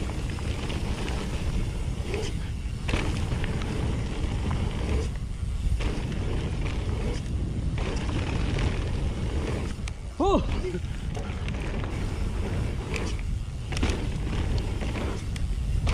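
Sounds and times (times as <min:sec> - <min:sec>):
bike rattling and knocking: 0:00.0 - 0:15.9
wind buffeting microphone: 0:00.0 - 0:15.9.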